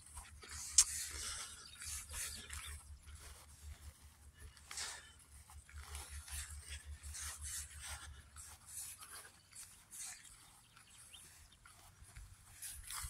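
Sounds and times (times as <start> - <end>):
footsteps swishing through grass: 0.0 - 13.0.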